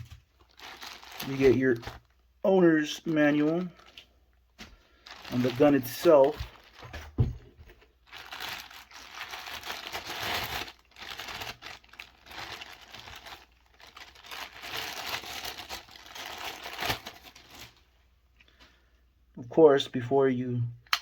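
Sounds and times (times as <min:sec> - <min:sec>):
packaging crinkling: 0:00.0 - 0:02.3, 0:03.0 - 0:18.7.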